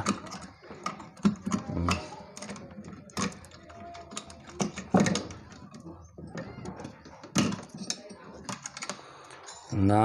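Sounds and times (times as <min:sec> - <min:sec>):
plastic connectors clicking and knocking: 0:00.0 - 0:09.1.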